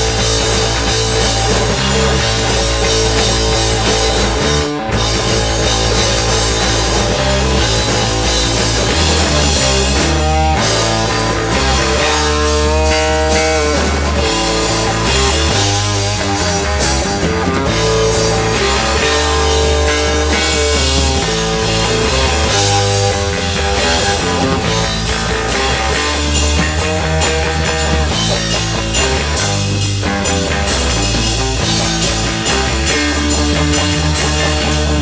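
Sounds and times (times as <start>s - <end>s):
electric guitar lines: 0.0s - 35.0s
rock band instrumental: 0.0s - 35.0s.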